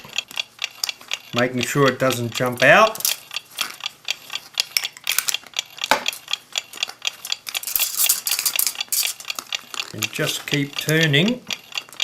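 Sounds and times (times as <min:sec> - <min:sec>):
clock spring metallic clicks: 0:00.0 - 0:12.0.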